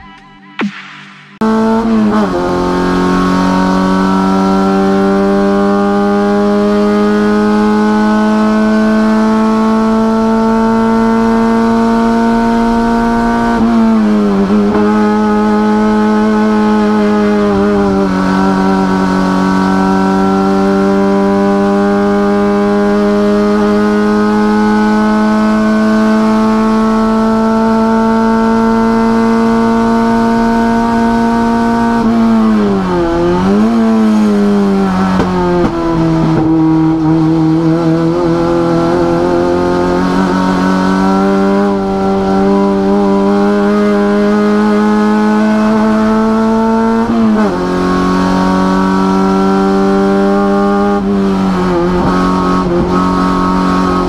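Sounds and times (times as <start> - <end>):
race car engine at high revs: 0.6 - 54.0.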